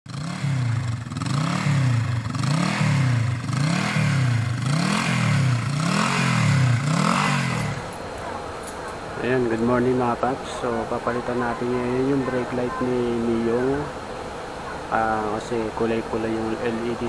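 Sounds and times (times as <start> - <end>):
motorcycle engine revving: 0.1 - 17.0.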